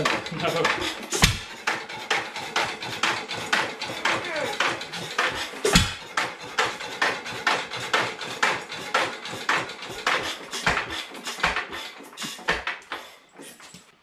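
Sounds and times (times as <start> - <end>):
sharp metallic clack: 0.0 - 13.0
old engine running: 0.0 - 13.8.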